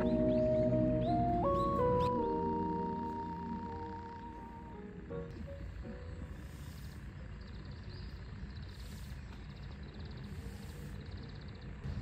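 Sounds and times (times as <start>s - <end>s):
small birds trilling: 0.0s - 4.8s, 5.7s - 11.9s.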